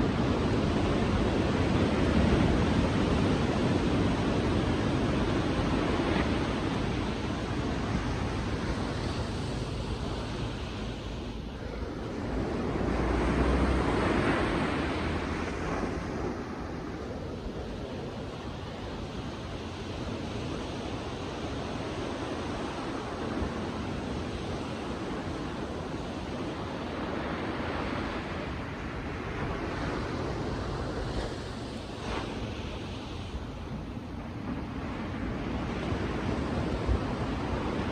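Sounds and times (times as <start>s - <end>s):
sea waves breaking on beach: 0.0s - 37.9s.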